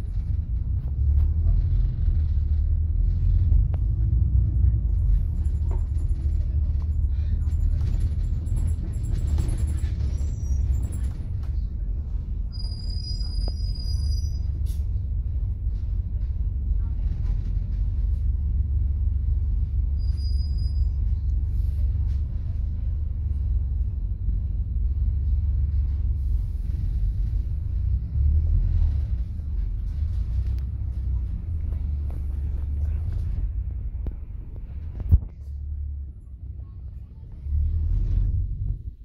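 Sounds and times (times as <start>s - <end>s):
bus engine and road rumble: 0.0s - 39.0s.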